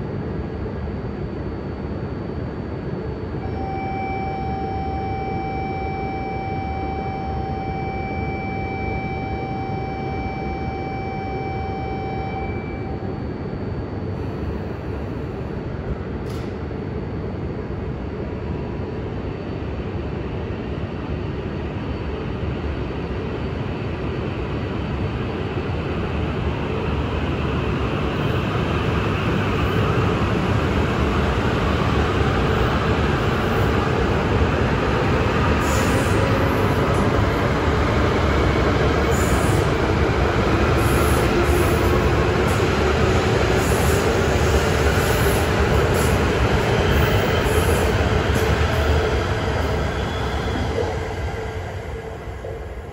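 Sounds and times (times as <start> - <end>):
train running noise: 2.2 - 52.9.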